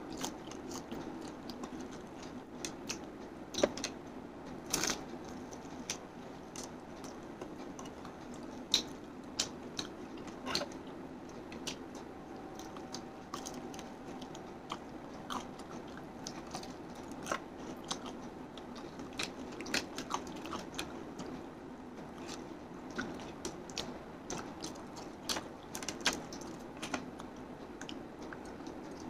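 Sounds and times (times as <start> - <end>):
chewing crispy chicken: 0.0 - 4.0, 4.6 - 21.4, 22.1 - 29.0.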